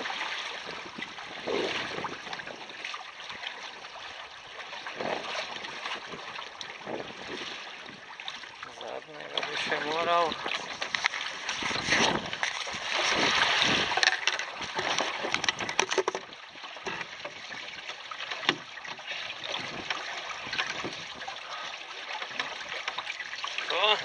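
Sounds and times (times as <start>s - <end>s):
water rushing along hulls: 0.0s - 24.0s.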